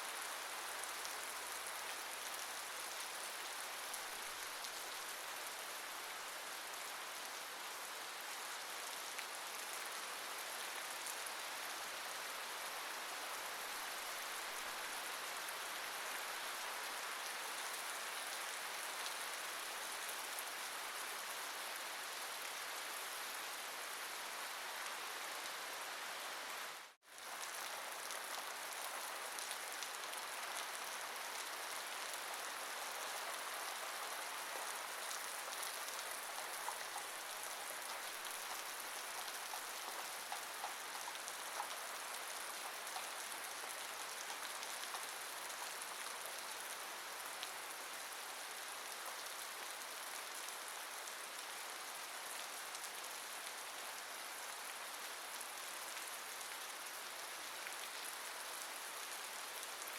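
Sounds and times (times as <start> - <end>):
rain pattering on surfaces: 0.1 - 59.9.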